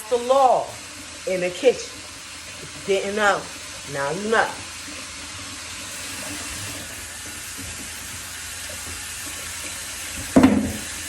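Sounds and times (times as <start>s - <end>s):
faucet running into sink: 0.0s - 11.0s
hands washing under water: 1.9s - 11.0s.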